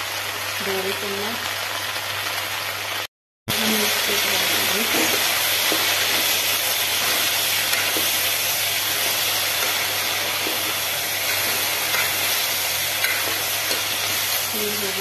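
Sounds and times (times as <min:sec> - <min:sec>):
potato and onion sizzling in oil: 0:00.0 - 0:15.0.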